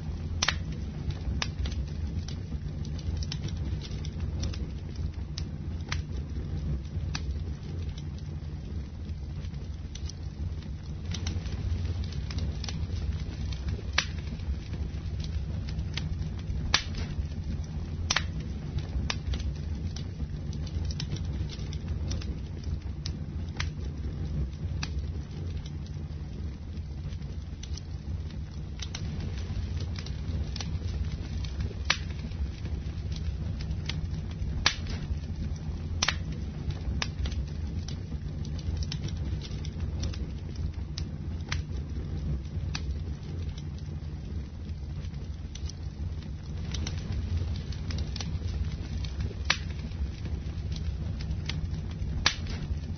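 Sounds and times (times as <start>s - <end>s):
burning wood crackling and popping: 0.0s - 52.9s
campfire flames rumbling: 0.0s - 52.9s.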